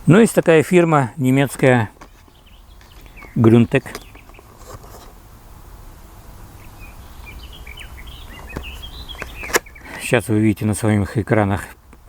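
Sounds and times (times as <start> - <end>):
small birds chirping: 0.0 - 5.2, 6.3 - 12.0.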